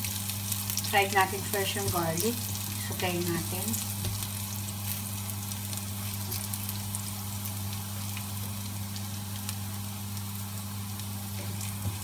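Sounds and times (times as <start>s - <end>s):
garlic sizzling in oil: 0.0s - 12.0s
spatula stirring crackles: 0.0s - 12.0s.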